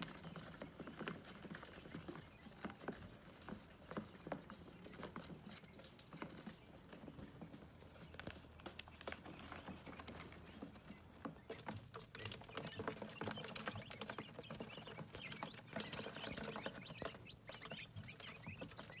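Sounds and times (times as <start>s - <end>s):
chicks cheeping: 0.0s - 19.0s
chicks pecking at paper: 0.0s - 19.0s.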